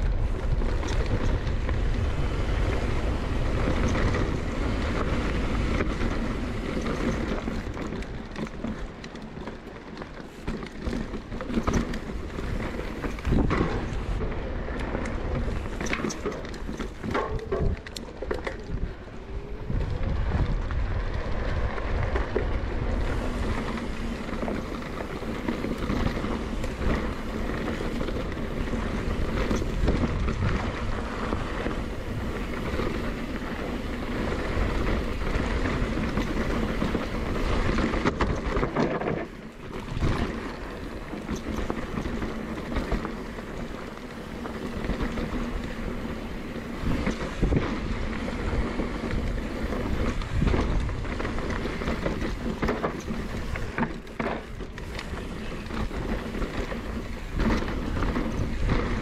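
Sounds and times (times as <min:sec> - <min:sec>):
wind buffeting microphone: 0:00.0 - 0:09.7, 0:10.4 - 0:59.0
mountain bike rumbling and rattling: 0:00.0 - 0:59.0.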